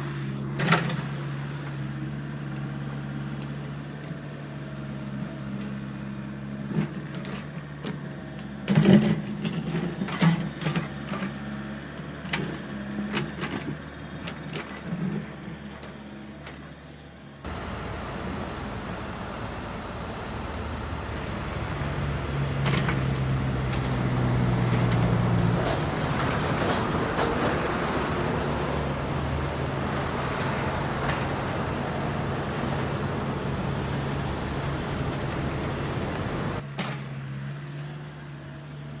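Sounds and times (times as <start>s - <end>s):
heavy machinery diesel engines: 0.0s - 39.0s.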